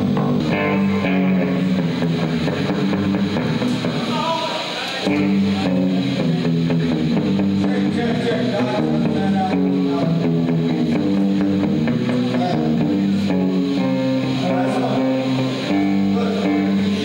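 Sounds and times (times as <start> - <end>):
electric guitar and bass: 0.0 - 17.0.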